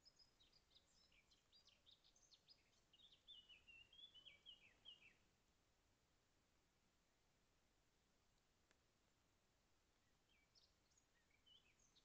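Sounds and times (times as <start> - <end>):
songbird song: 0.0 - 12.0.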